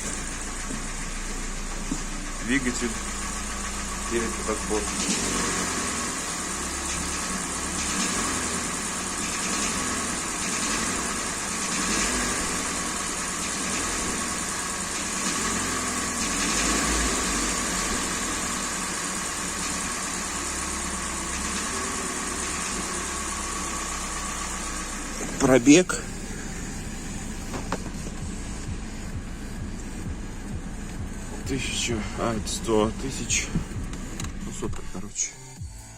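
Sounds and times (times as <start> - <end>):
engine knocking: 0.0 - 35.0
car engine idling: 0.0 - 35.9.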